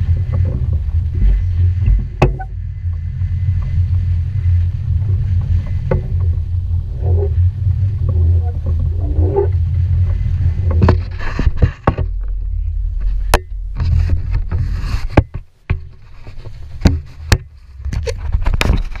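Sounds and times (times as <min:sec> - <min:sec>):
water: 0:00.0 - 0:19.0
wind: 0:00.0 - 0:19.0.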